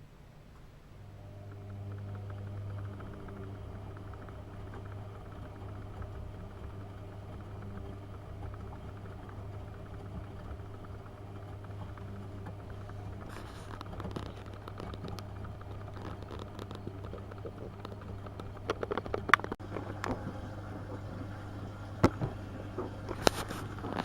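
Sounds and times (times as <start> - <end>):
swishing crackling wash noise: 0.0 - 24.0
washing machine motor hum: 0.0 - 24.0.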